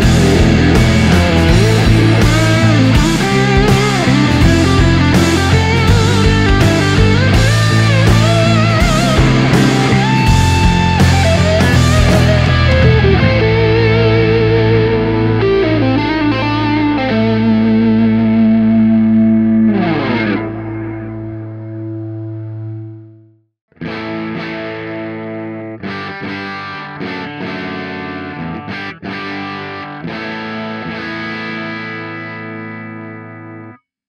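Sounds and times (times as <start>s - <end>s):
overdriven electric guitar: 0.0s - 33.8s.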